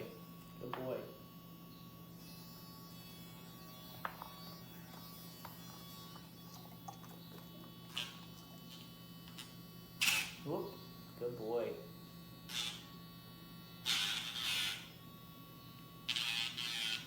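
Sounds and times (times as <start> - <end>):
nail grinder humming: 0.0 - 17.0.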